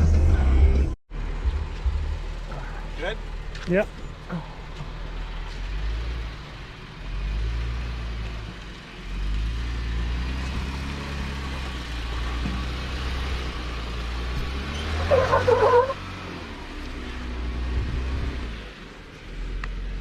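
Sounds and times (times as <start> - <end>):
off-road vehicle engine rumbling: 0.0 - 20.0.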